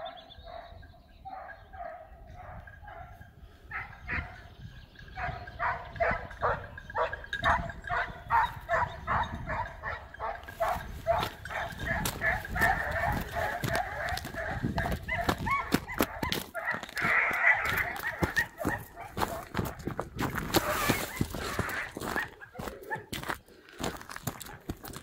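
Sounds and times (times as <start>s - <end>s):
hound baying: 0.1s - 4.5s, 5.1s - 25.0s.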